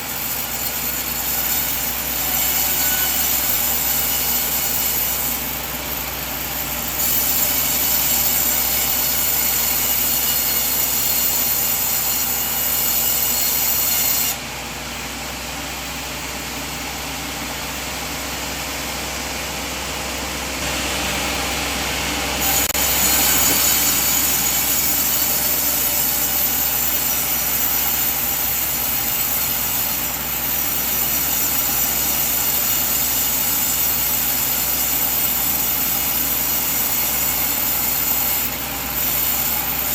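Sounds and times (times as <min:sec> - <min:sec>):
sawmill machinery sawing logs: 0:00.0 - 0:39.9.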